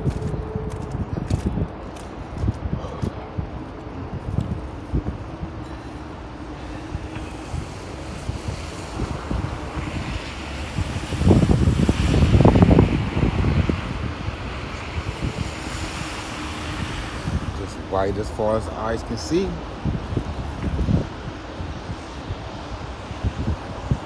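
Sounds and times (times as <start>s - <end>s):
blizzard wind buffeting microphone: 0.0s - 24.0s.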